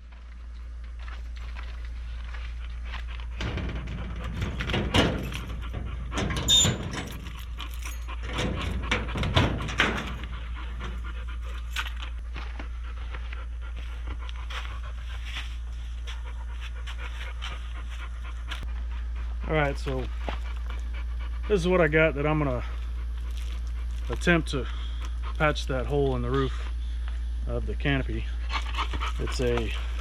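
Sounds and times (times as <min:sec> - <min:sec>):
steady low hum: 0:00.0 - 0:30.0
dog panting: 0:01.5 - 0:26.8, 0:28.3 - 0:30.0.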